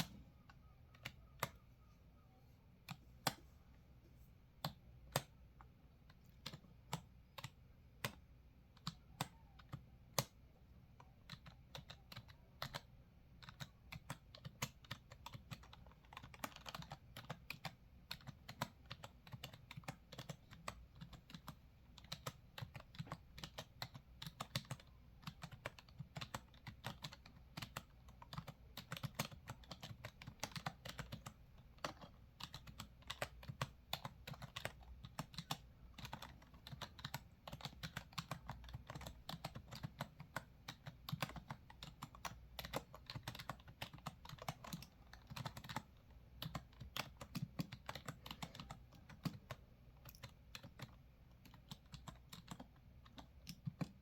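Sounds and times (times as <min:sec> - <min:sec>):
keyboard typing: 0:00.0 - 0:01.9, 0:04.6 - 0:54.0.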